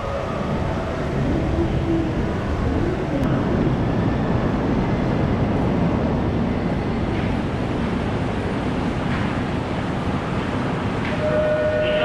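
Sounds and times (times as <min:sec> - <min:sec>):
low rumble of railway station: 0:00.0 - 0:12.0.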